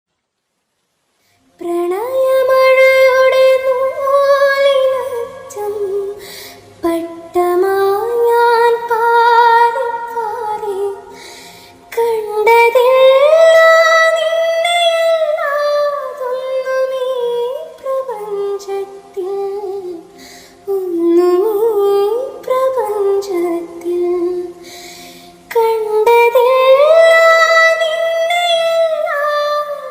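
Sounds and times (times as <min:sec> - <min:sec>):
woman singing slow melodic song: 0:01.4 - 0:29.9.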